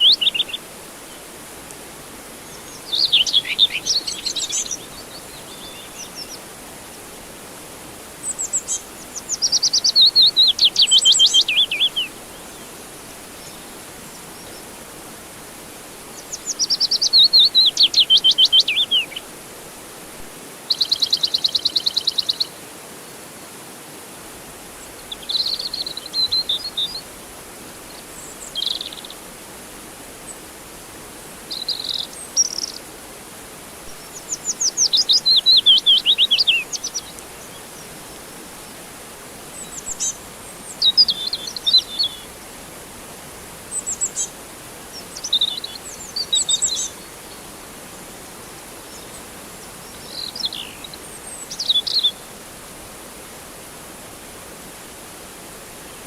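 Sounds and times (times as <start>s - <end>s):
songbirds trilling and chirping: 0.0s - 22.6s, 24.7s - 27.2s, 27.8s - 29.4s, 31.3s - 42.6s, 43.6s - 52.3s
steady background hiss: 0.0s - 56.0s.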